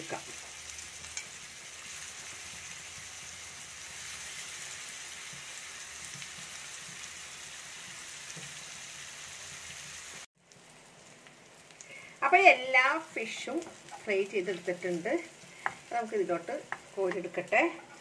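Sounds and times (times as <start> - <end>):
fish sizzling in frying pan: 0.0 - 18.0.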